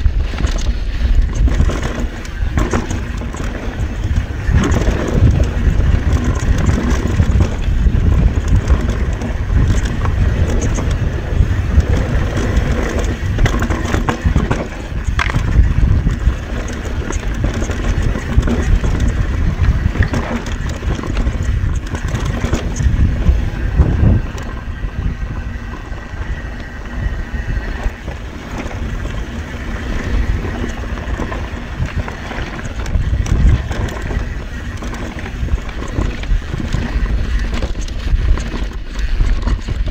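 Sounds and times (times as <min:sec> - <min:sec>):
bike rattling and knocking: 0:00.0 - 0:39.9
tyres rumbling on dirt and rocks: 0:00.0 - 0:39.9
wind buffeting microphone: 0:00.0 - 0:39.9.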